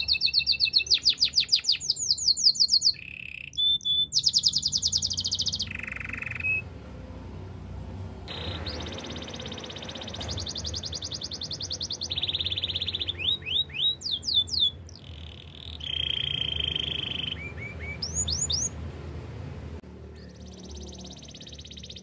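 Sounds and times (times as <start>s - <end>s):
canary trilling: 0.0s - 6.7s, 8.3s - 18.8s, 20.2s - 22.0s.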